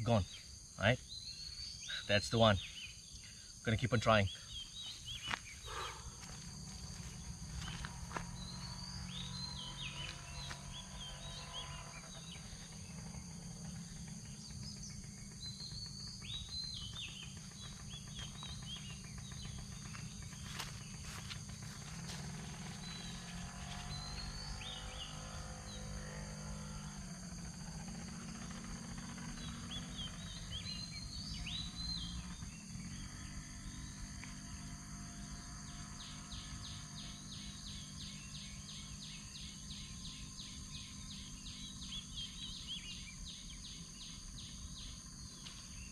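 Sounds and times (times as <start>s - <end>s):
small birds chirping: 0.0s - 34.6s, 35.3s - 45.9s
high insect drone: 0.0s - 45.9s.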